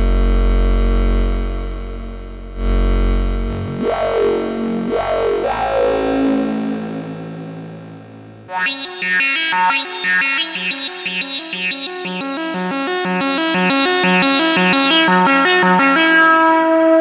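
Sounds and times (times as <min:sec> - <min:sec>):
fast repeating synthesizer notes: 0:02.5 - 0:17.0.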